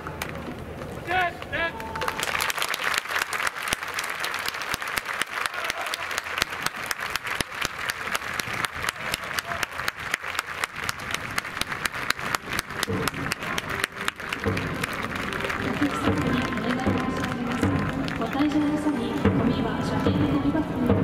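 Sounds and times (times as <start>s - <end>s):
crowd applauding: 0.0s - 19.4s.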